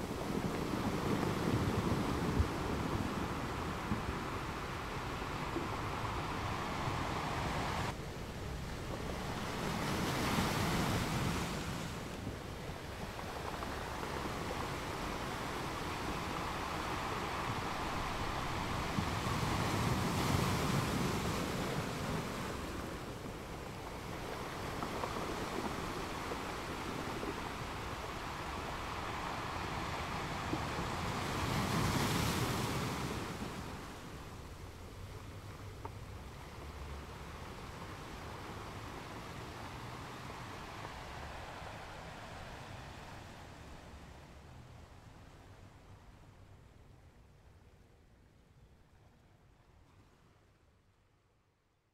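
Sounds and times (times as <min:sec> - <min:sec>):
ocean waves breaking: 0:00.0 - 0:46.2.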